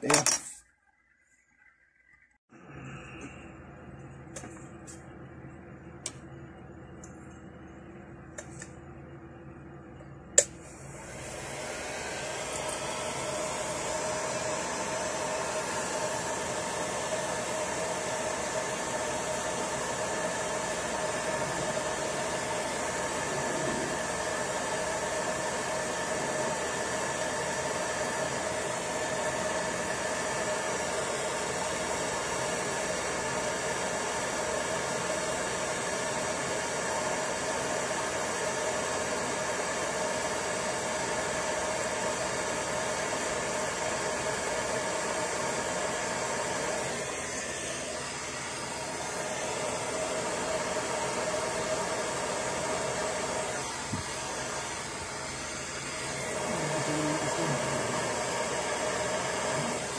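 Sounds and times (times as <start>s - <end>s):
heat gun blowing hot air: 10.9s - 59.9s.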